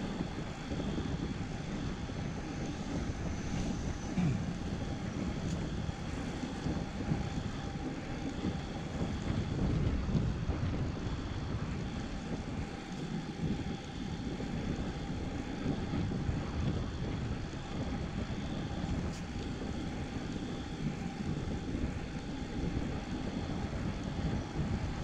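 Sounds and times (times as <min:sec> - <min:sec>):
bike road noise: 0:00.0 - 0:25.0
wind on microphone: 0:00.0 - 0:25.0.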